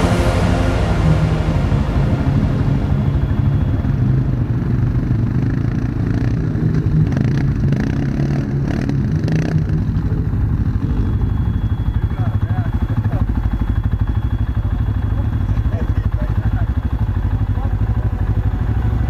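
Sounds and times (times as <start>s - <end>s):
atv engine running: 3.0s - 19.0s.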